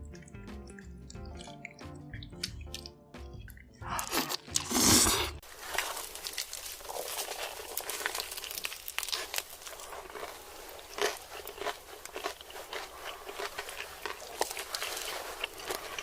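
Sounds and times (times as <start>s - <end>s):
chewing crunchy chicken: 0.0s - 16.0s.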